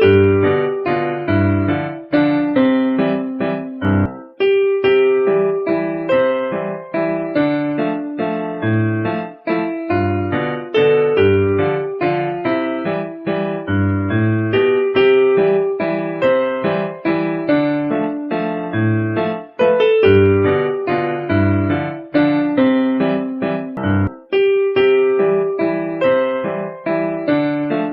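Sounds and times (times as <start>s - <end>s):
electric piano melody: 0.0s - 27.9s.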